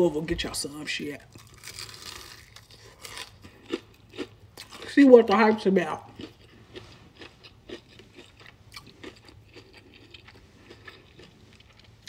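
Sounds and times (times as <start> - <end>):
chewing crispy chicken: 1.2 - 5.0, 6.1 - 12.0.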